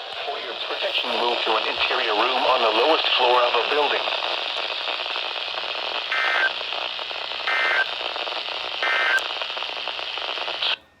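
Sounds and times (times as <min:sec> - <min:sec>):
radio hiss: 0:00.0 - 0:10.8.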